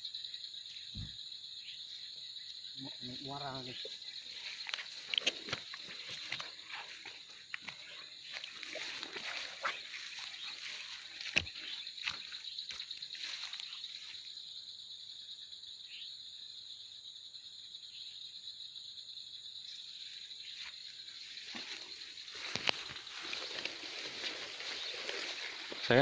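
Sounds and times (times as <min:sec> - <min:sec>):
higher insect tone: 0:00.0 - 0:26.0
swamp insects chorus: 0:00.0 - 0:26.0.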